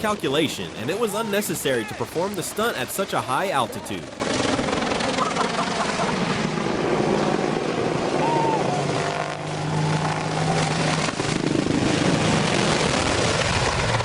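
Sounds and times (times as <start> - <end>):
aircraft engine running: 0.0 - 14.0.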